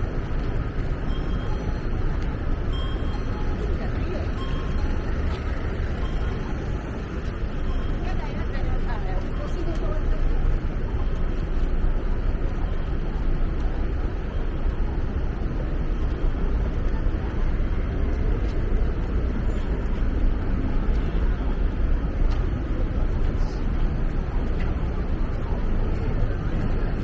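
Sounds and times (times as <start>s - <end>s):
murmur of voices: 0.0s - 27.0s
traffic rumble: 0.0s - 27.0s.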